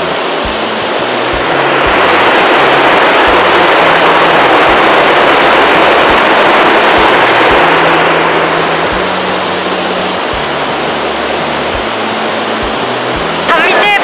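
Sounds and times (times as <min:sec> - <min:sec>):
faint background music: 0:00.0 - 0:14.0
loud rushing noise: 0:00.0 - 0:14.0.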